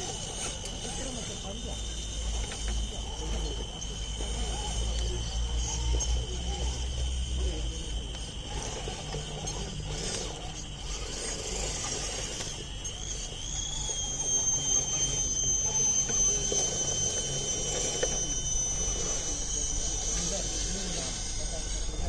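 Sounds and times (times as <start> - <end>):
high-pitched electric motor whine: 0.0 - 22.0.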